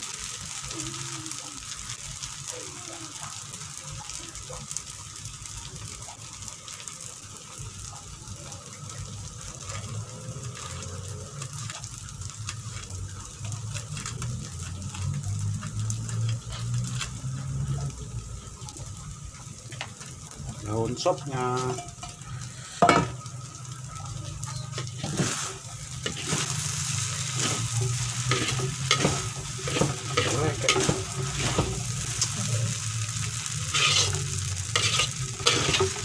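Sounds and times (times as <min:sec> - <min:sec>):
rice noodles sizzling in a wok: 0:00.0 - 0:36.0.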